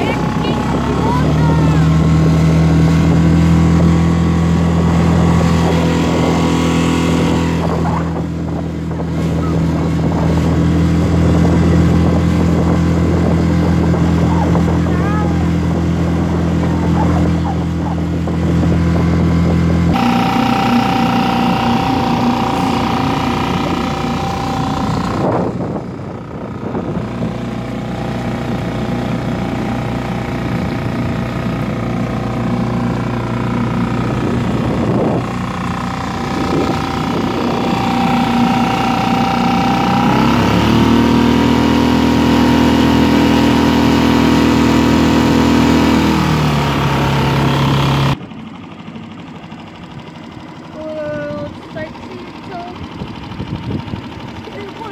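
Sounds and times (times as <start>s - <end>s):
water rushing: 0.0s - 25.7s, 27.0s - 48.2s
outboard motor running: 0.0s - 54.9s.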